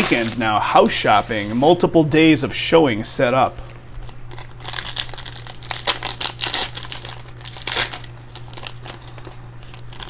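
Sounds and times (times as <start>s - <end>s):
foil wrapper crinkling: 0.0s - 2.0s, 3.6s - 10.0s.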